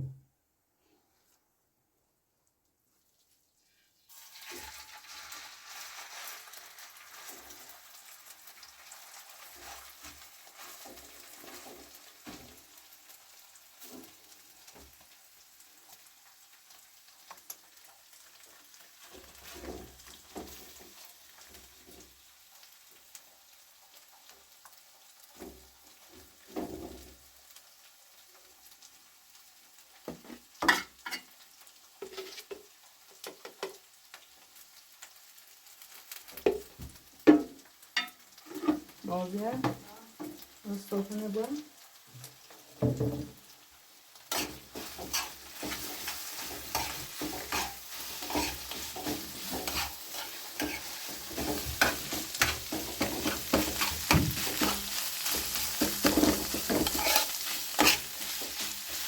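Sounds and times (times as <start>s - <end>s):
plants sizzling in oil: 3.0s - 59.0s.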